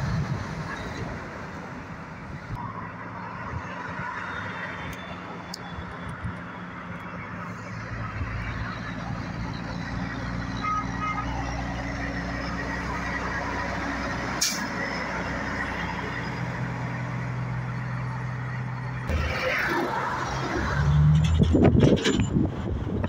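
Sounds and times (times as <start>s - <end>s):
diesel truck engine passing: 0.0s - 23.0s
traffic noise: 0.0s - 23.0s.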